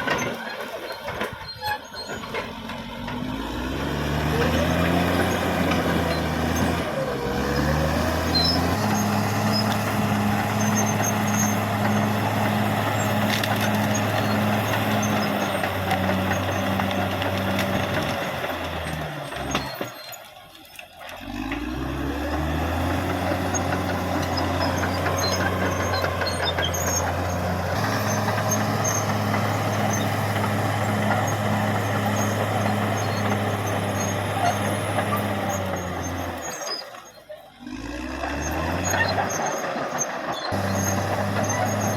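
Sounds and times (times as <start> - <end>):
bulldozer diesel engine working: 0.0 - 41.9.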